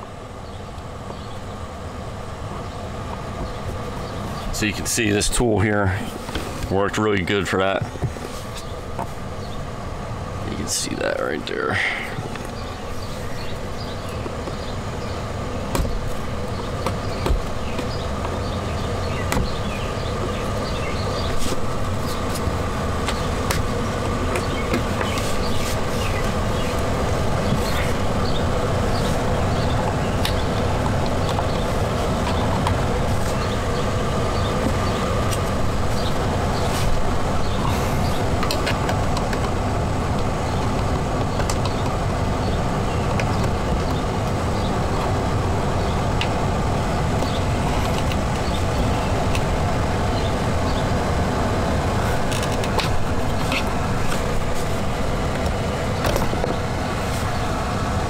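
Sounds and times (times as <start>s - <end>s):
loud rumbling noise: 0.0s - 58.0s.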